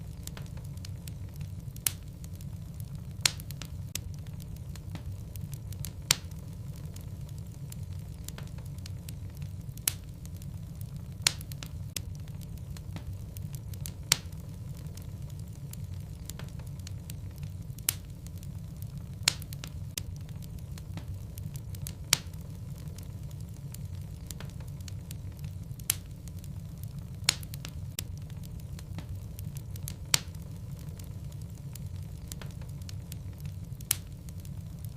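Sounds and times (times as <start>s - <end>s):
fire rumbling: 0.0s - 34.9s
wood crackling and popping: 0.0s - 34.9s.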